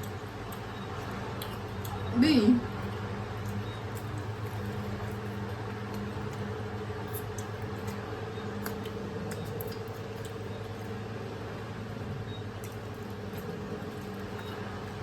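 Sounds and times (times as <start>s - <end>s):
chewing and handling food: 0.0s - 15.0s.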